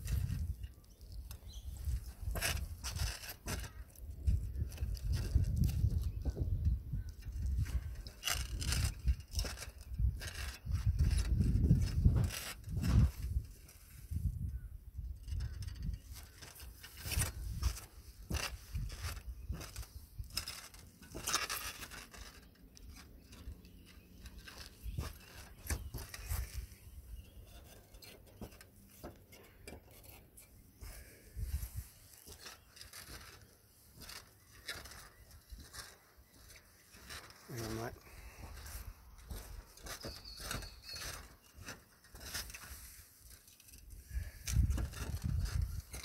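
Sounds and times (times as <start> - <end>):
footsteps on roof tiles: 0.0 - 14.0, 15.2 - 46.0.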